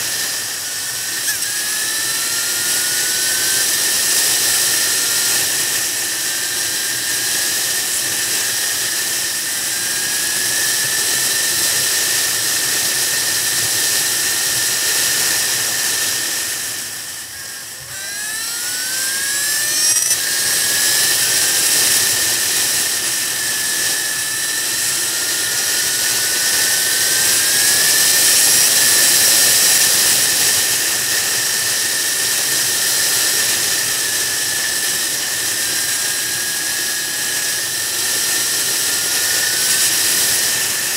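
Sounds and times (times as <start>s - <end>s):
motorcycle engine whine: 0.0s - 40.9s.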